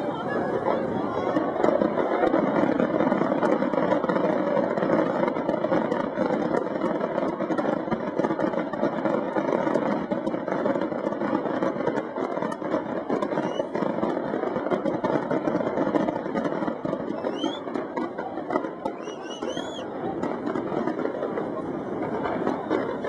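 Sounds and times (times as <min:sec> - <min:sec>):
fireworks shells bursting: 0:00.6 - 0:23.0.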